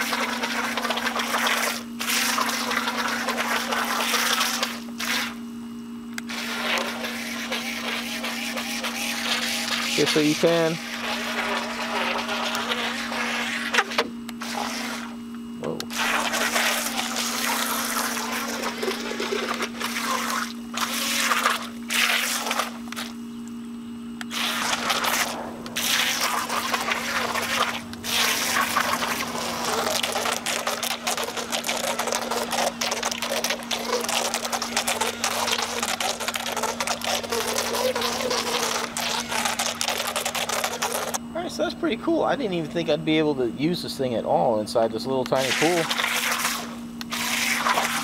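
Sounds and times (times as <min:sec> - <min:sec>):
toy jet ski water spraying: 0:00.0 - 0:05.4, 0:06.3 - 0:15.2, 0:15.9 - 0:23.1, 0:24.3 - 0:41.2, 0:45.4 - 0:48.0.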